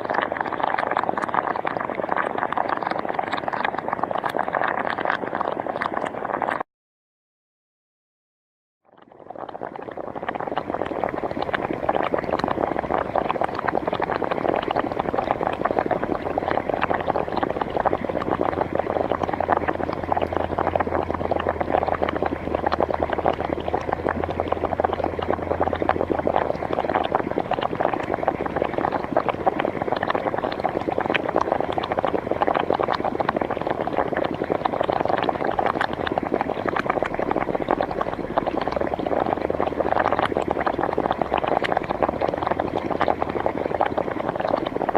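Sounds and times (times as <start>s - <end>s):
hot spring water bubbling: 0.0s - 6.6s, 8.9s - 44.9s.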